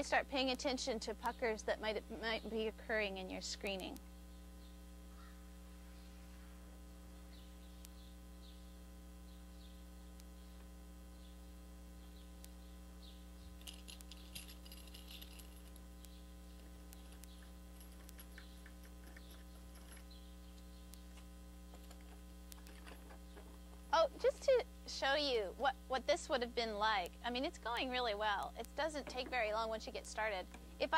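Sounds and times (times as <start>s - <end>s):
electrical mains hum: 0.0s - 30.9s.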